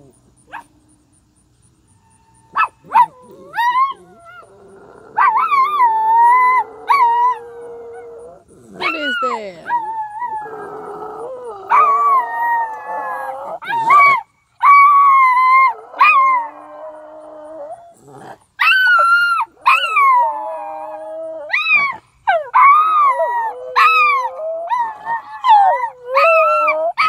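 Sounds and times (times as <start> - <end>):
dog howling: 2.1 - 27.0.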